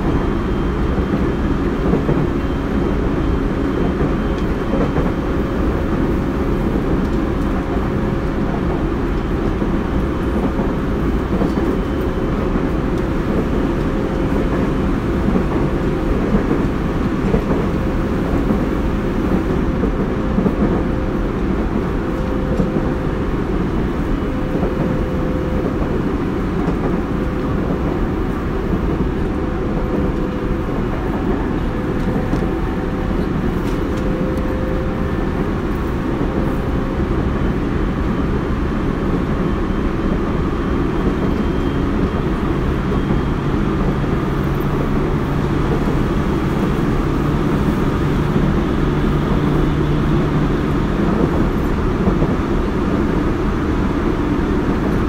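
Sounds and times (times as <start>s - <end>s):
train motor hum: 0.0s - 55.0s
wheel-on-rail rumble: 0.0s - 55.0s.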